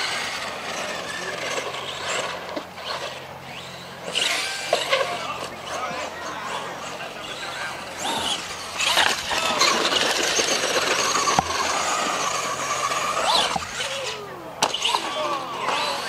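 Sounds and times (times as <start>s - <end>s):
electric motor whine: 0.0s - 16.0s.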